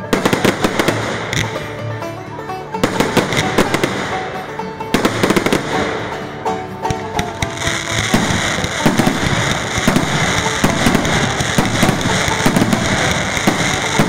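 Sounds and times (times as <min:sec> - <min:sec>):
fireworks bangs and crackles: 0:00.0 - 0:01.7, 0:02.8 - 0:06.2, 0:06.8 - 0:14.0
music playing: 0:00.0 - 0:14.0.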